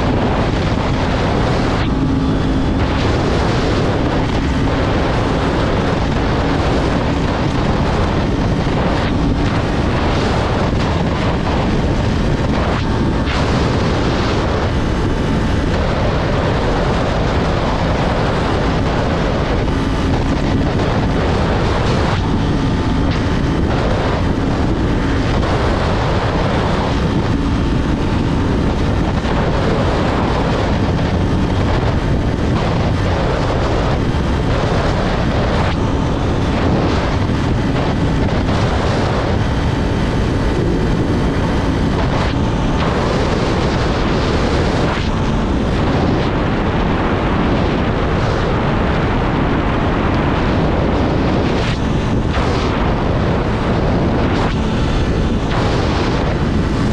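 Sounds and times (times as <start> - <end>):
motorcycle engine drone: 0.0 - 56.9
road noise: 0.0 - 56.9
wind rushing over microphone: 0.0 - 56.9.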